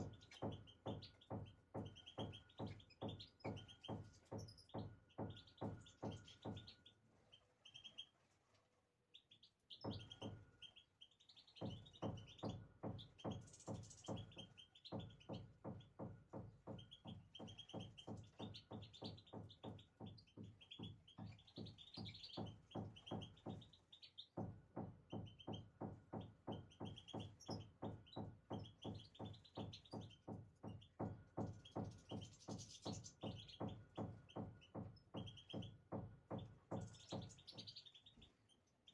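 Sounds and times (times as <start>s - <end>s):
low rhythmic thudding: 0.0s - 6.9s, 11.5s - 37.9s
songbirds chirping: 0.0s - 38.9s.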